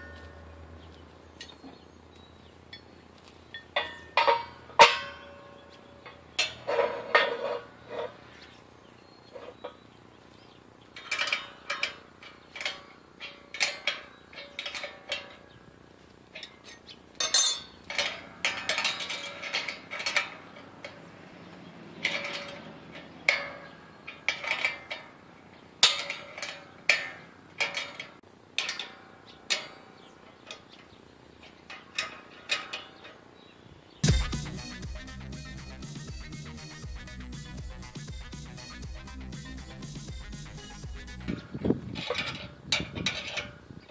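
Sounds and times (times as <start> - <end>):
wrenches clinking on metal: 3.5 - 8.3, 10.9 - 15.7, 16.3 - 21.2, 21.9 - 33.3, 34.5 - 43.9.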